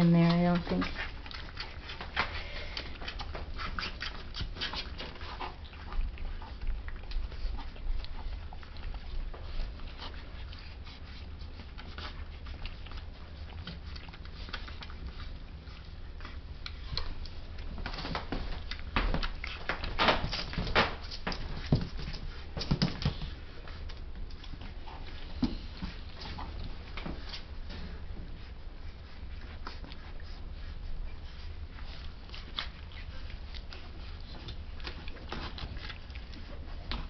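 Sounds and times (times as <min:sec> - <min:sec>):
puppies suckling clicks: 0:00.0 - 0:37.0.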